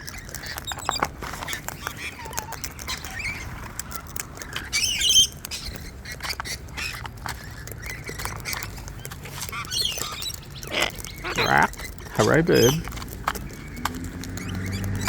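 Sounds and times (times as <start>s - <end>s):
cockatoos squawking: 0.0s - 15.0s
small sharp clicks and taps: 0.0s - 15.0s.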